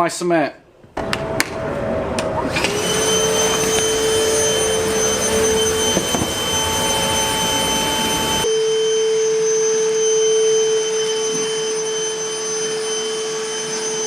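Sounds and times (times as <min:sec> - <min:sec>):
vacuum motor whine: 0:01.0 - 0:14.0.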